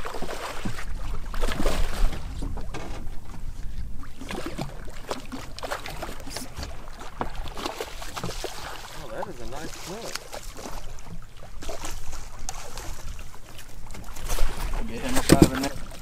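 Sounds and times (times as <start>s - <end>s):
water slapping boat hull: 0.0s - 16.0s.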